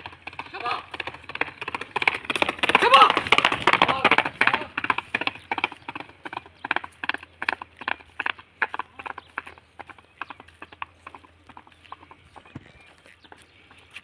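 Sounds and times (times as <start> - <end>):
horse hooves galloping on bricks: 0.0 - 14.0.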